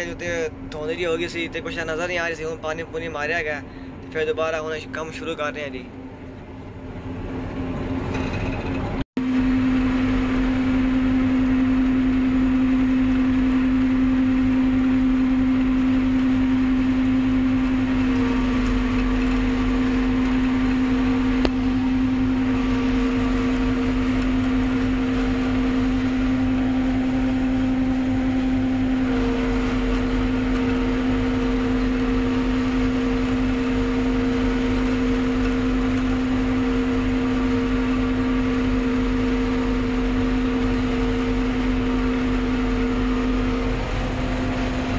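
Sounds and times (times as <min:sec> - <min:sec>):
tractor engine running under load: 0:00.0 - 0:44.9.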